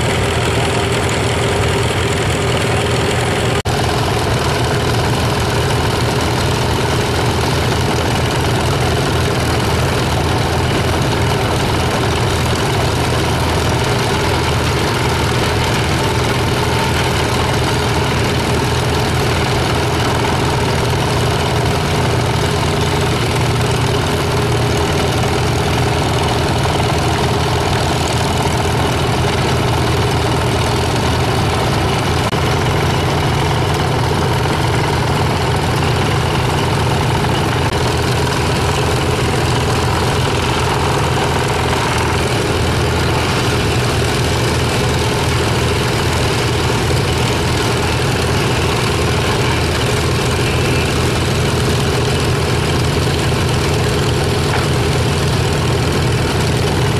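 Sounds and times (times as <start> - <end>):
tractor engine rumble: 0.0 - 56.9.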